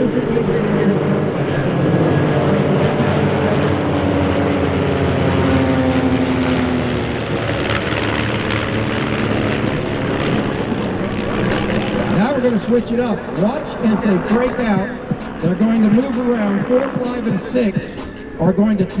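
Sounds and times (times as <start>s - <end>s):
propeller planes droning past: 0.0s - 19.0s.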